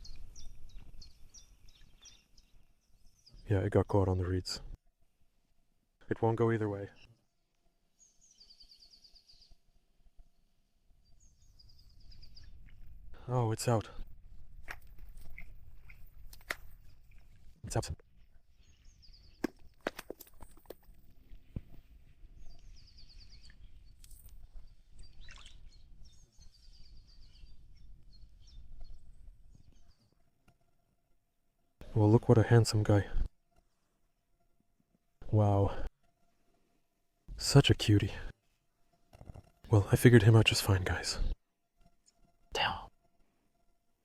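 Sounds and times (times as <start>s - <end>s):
faint outdoor background noise: 0.0s - 44.0s.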